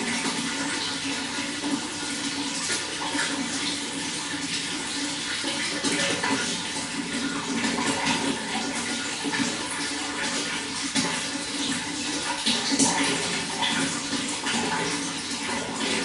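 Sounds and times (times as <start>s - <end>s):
running water splashing: 0.0s - 16.0s.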